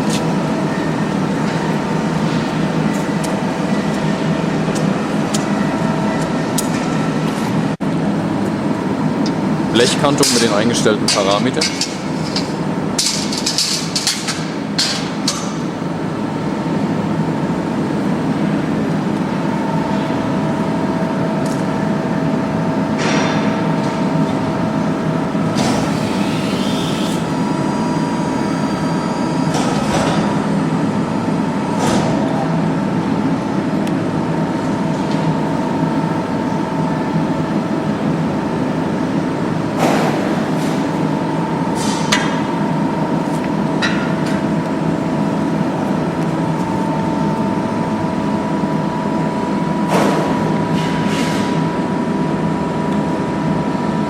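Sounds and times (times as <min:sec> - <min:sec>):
machine whine: 0:00.0 - 0:50.8.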